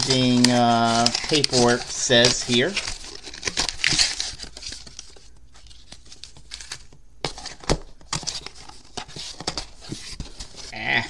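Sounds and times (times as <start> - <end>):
paper packaging rustling: 0.0 - 10.8.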